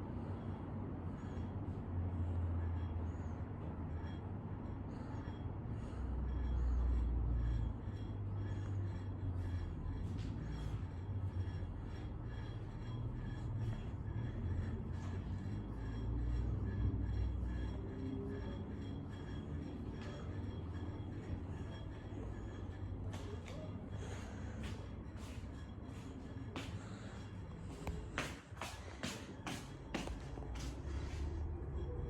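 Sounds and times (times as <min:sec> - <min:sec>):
ceiling fan humming: 0:00.0 - 0:32.0
fan ticking: 0:00.0 - 0:32.0.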